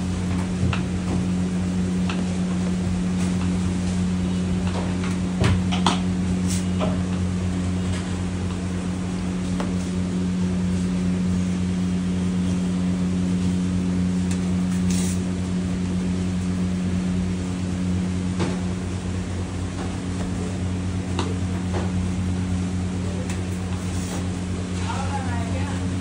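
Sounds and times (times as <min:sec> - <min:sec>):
low electric machine hum: 0:00.0 - 0:26.0.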